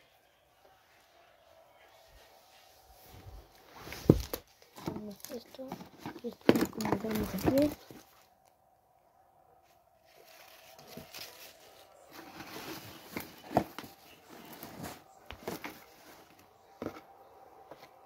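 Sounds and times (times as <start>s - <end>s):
rustling of ribbon and items: 2.1s - 8.5s, 9.6s - 18.0s.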